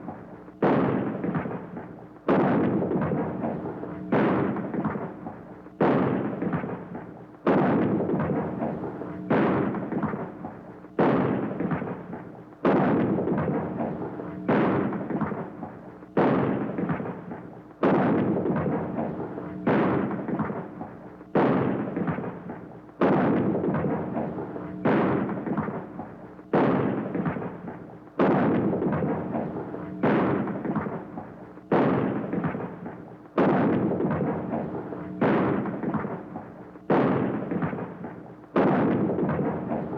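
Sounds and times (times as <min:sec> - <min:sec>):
shotgun blasts with echo: 0:00.6 - 0:39.9.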